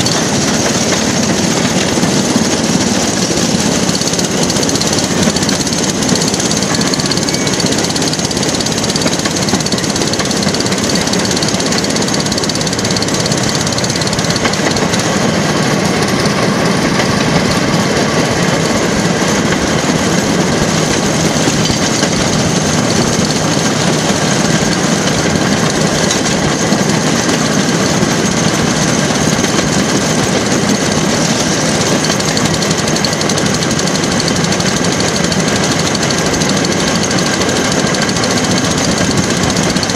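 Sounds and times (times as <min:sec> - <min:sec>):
track car engine chugging: 0:00.0 - 0:39.9.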